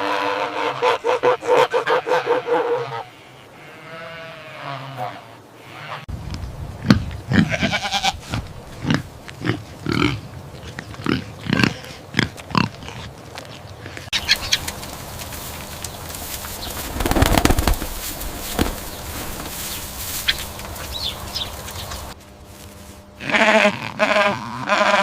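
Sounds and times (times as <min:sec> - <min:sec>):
farm animal calls: 0:00.0 - 0:06.1, 0:06.8 - 0:22.2, 0:23.2 - 0:25.0.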